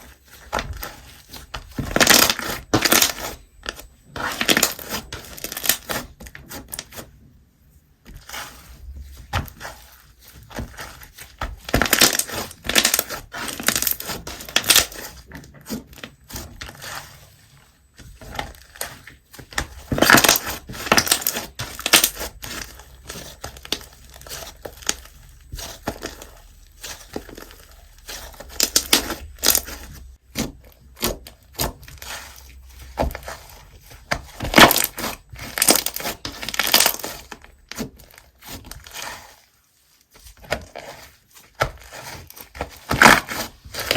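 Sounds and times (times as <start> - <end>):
slime squishing: 0.0 - 43.9.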